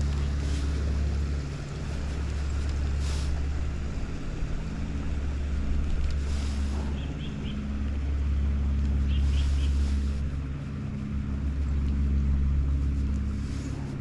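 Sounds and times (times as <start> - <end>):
stream flowing: 0.0 - 14.0.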